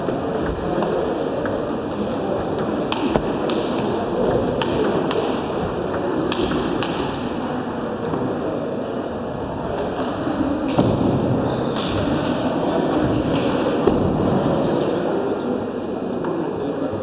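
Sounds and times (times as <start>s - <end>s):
sports hall noise: 0.0s - 17.0s.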